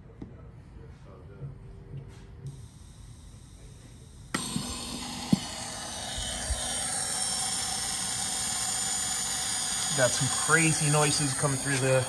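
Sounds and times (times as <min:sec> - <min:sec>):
speaker hiss and whine: 0:00.0 - 0:12.0.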